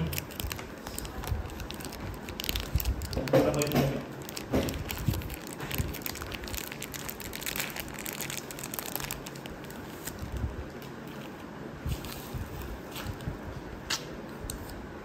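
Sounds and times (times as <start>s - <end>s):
plastic sleeve crinkling: 0.0s - 13.3s.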